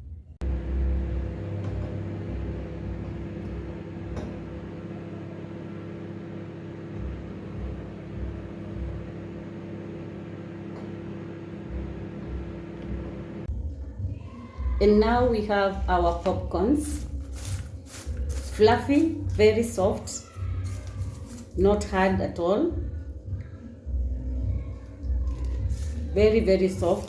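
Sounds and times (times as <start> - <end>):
microwave oven humming: 0.4 - 15.4, 16.0 - 27.0.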